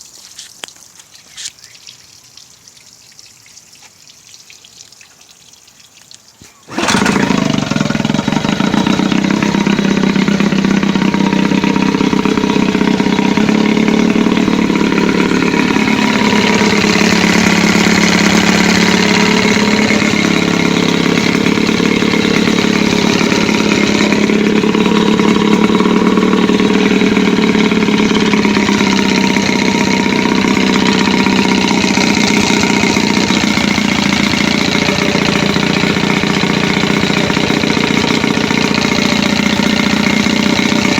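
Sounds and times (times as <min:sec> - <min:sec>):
outboard motor running: 0:06.4 - 0:40.9.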